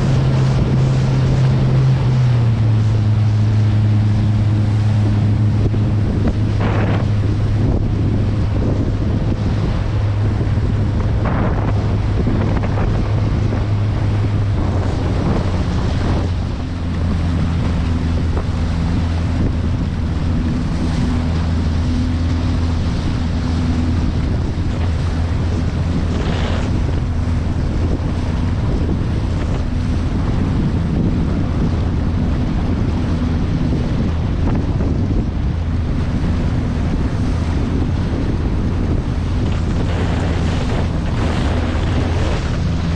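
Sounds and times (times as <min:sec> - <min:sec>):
boat motor running: 0:00.0 - 0:42.9
hull smacking through waves: 0:00.0 - 0:42.9
wind buffeting microphone: 0:00.0 - 0:42.9.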